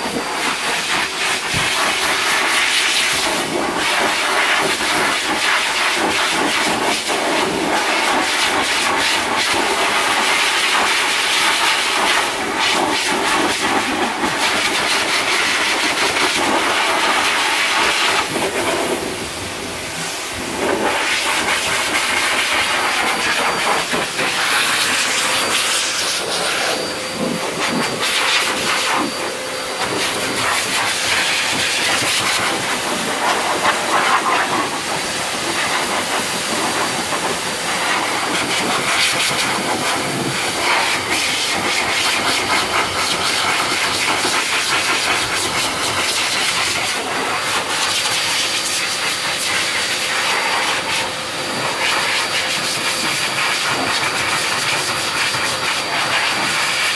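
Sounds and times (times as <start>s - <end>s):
dog dryer blowing air: 0.0s - 56.9s.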